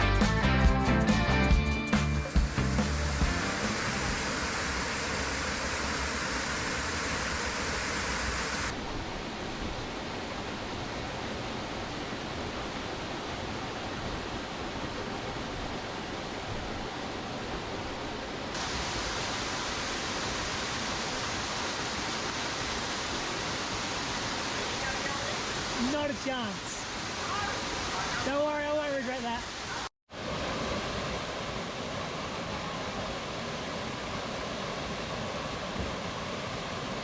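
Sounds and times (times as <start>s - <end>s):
waterfall rushing: 2.4s - 37.0s.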